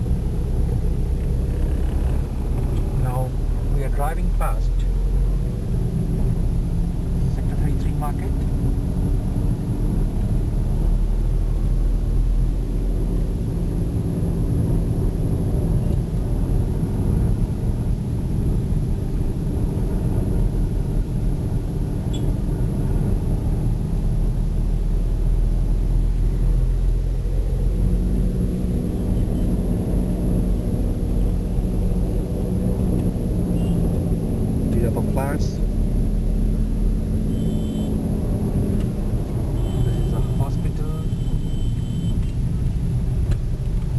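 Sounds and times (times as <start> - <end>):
car engine and tyres droning: 0.0 - 43.9.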